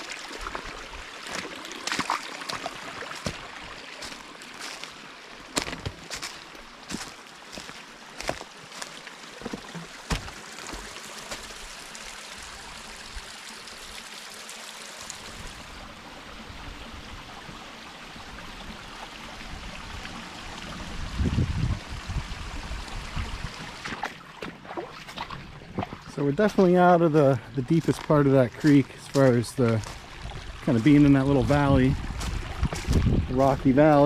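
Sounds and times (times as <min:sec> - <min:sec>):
creek running over rocks: 0:00.0 - 0:34.0.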